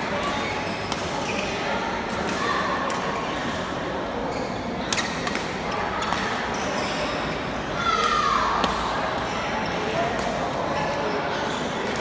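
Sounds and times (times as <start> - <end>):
chatter echoing in a hall: 0.0 - 12.0.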